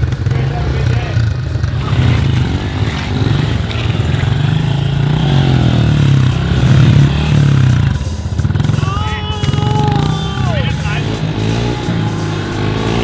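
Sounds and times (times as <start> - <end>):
small motorbike engines running: 0.0 - 13.0.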